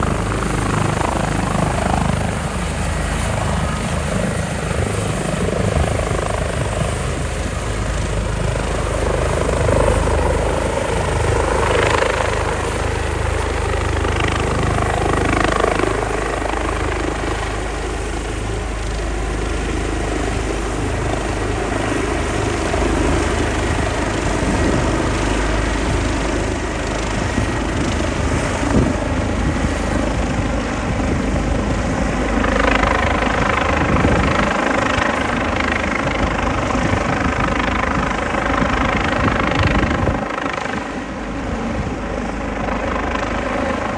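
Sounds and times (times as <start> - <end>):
helicopter rotor and turbine: 0.0 - 43.9.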